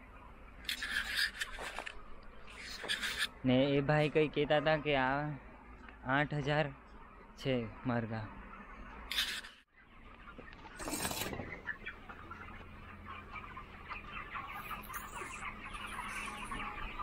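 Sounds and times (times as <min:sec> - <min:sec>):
chickens clucking and cheeping: 0:00.0 - 0:17.0.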